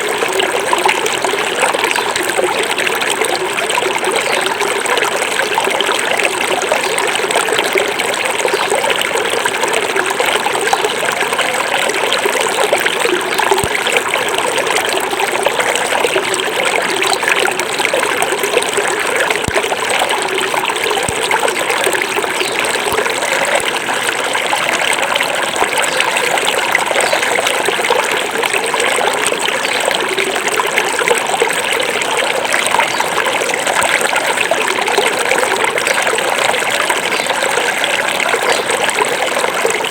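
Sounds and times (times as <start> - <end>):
river babbling: 0.0 - 39.9.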